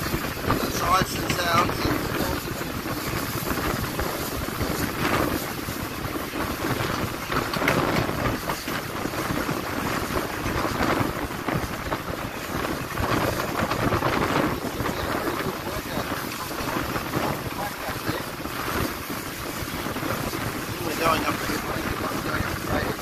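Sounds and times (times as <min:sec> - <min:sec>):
train running noise: 0:00.0 - 0:23.0
wind buffeting microphone: 0:00.0 - 0:23.0.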